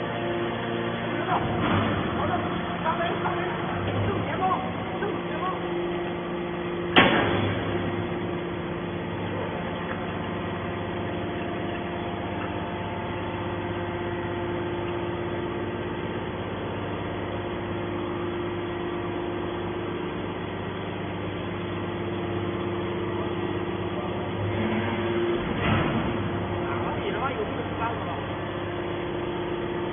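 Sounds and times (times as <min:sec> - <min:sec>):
hydraulic baler motor and pump hum: 0:00.0 - 0:29.9.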